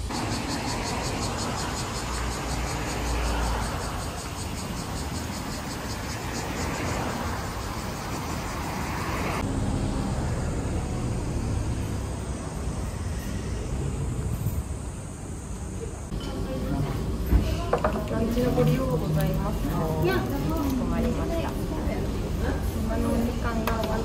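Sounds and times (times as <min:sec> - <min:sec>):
car traffic passing: 0:00.0 - 0:24.0.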